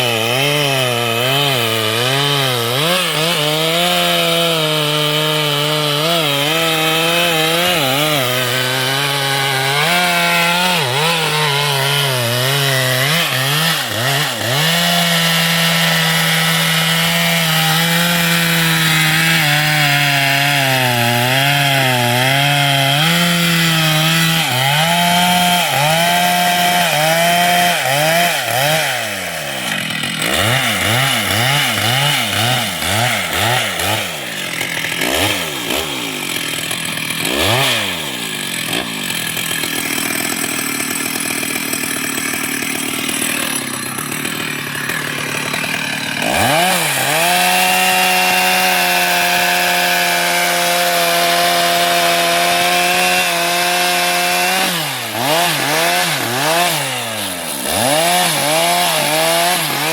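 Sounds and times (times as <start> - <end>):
chainsaw cutting wood: 0.0 - 59.9
chainsaw revving: 0.0 - 59.9.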